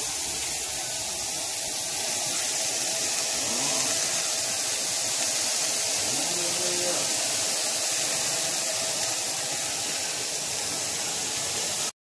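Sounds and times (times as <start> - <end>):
burger patties sizzling in skillet: 0.0 - 11.9.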